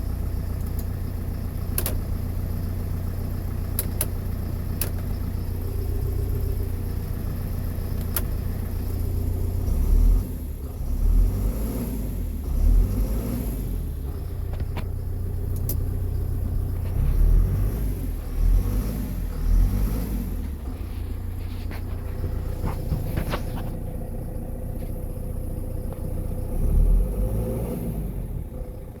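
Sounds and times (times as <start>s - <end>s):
tractor diesel engine revving: 0.0s - 29.0s.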